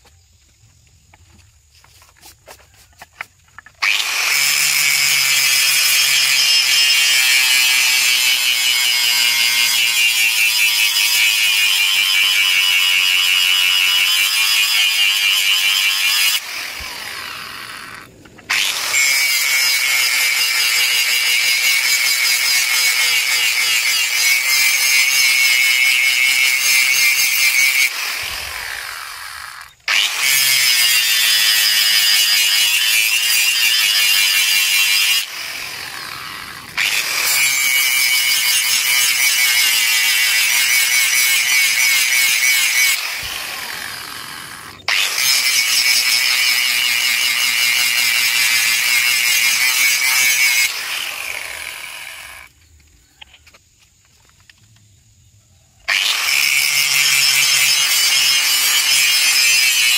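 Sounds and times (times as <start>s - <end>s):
angle grinder grinding steel: 3.6s - 52.5s, 55.9s - 59.9s.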